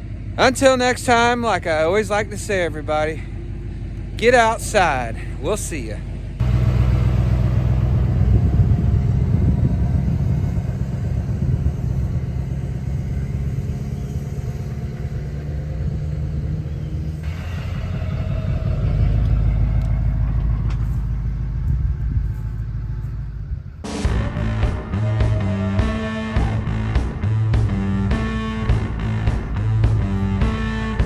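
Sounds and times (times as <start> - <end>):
truck engine rumbling: 0.0 - 31.0.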